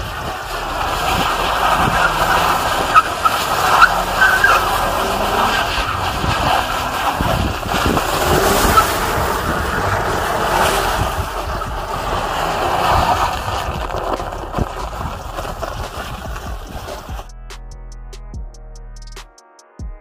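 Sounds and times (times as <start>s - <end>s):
car engine revving: 0.0s - 17.3s
wind noise on microphone: 0.0s - 17.4s.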